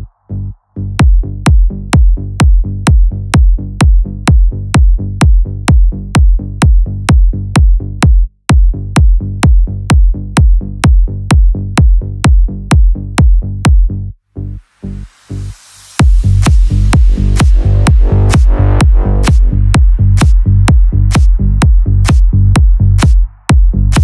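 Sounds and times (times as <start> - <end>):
pulsing bass line: 0.0 - 24.0
techno kick drum beat: 0.8 - 14.0, 16.0 - 24.0.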